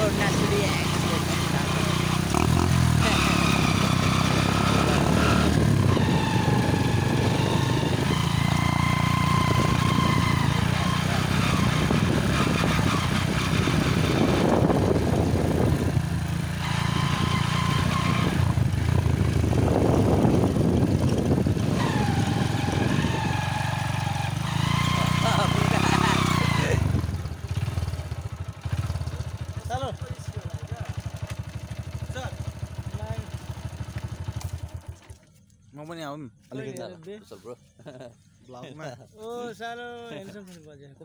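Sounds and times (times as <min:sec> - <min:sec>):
small motorcycle engine running: 0:00.0 - 0:35.6.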